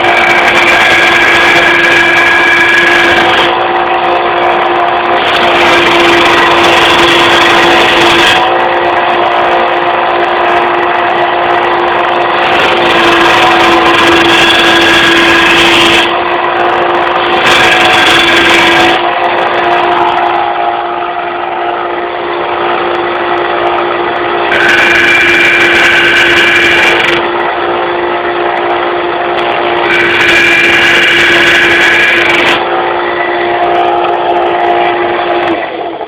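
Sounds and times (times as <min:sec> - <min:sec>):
belt sander motor hum: 0:00.0 - 0:36.0
metal grinding on sander belt: 0:00.0 - 0:36.0.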